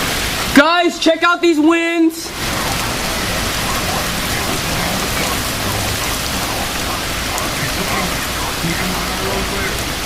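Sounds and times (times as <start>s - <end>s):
heavy rain downpour: 0.0s - 10.0s
wind: 0.0s - 10.0s.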